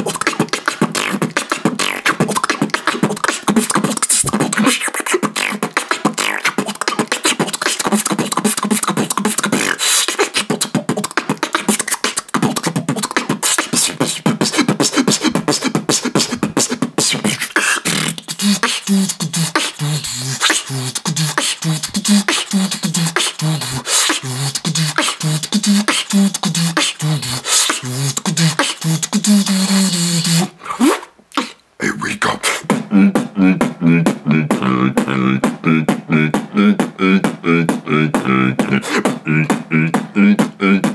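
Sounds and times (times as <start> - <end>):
beatboxed low bass notes: 0.0 - 40.9
beatboxing clicks and snares: 0.0 - 40.9.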